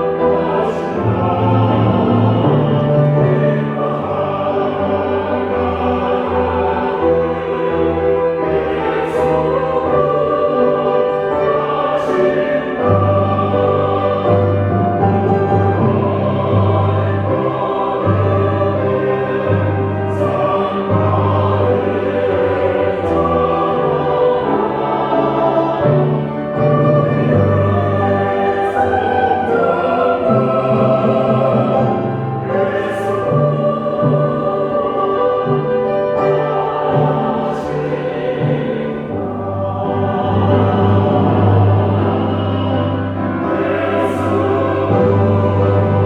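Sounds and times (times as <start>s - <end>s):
choir singing a hymn: 0.0s - 46.0s
sustained low accompaniment: 0.0s - 46.0s.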